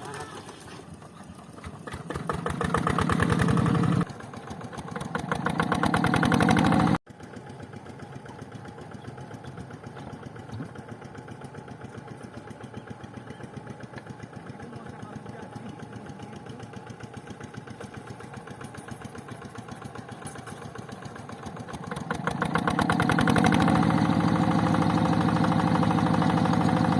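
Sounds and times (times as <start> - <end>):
tractor engine chugging: 0.9 - 26.9.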